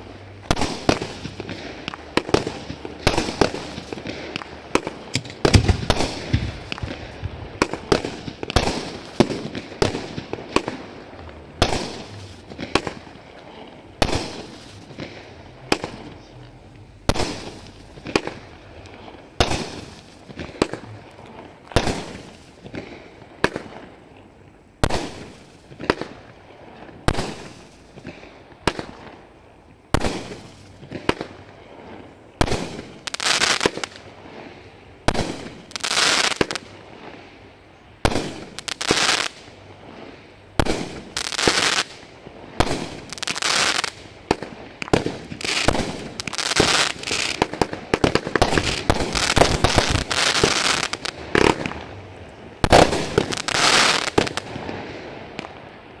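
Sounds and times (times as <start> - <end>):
firework crackling: 0.0 - 56.0
firework reports: 0.0 - 56.0.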